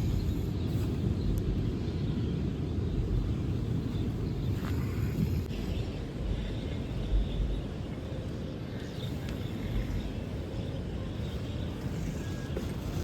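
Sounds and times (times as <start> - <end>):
birds chirping faintly: 0.0 - 13.0
steady low rumble: 0.0 - 13.0.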